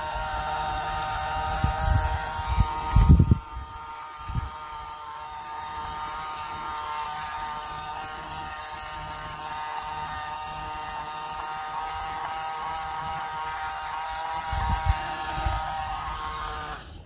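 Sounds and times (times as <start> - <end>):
small toy motor buzzing: 0.0 - 17.0.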